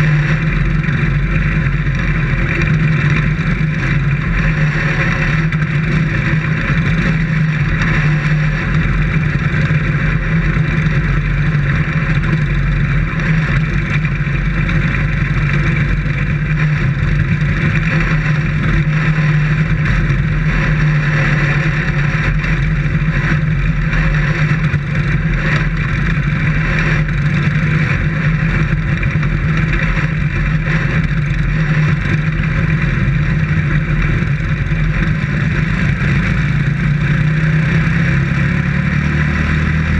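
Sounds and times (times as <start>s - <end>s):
race car engine running steadily: 0.0s - 39.9s.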